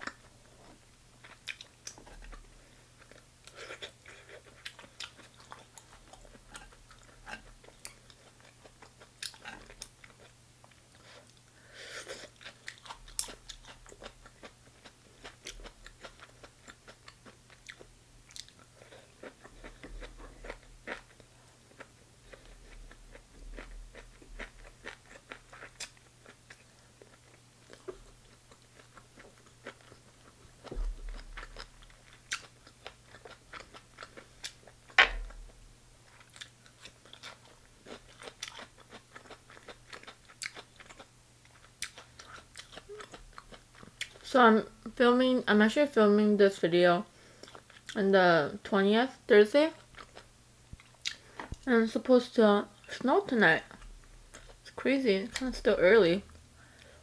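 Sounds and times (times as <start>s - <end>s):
faint steady hum: 0.0s - 57.0s
chewing with wet clicks and crunches: 1.2s - 11.5s, 12.2s - 35.0s, 36.1s - 44.3s, 47.4s - 48.0s, 49.8s - 51.7s, 52.8s - 54.8s.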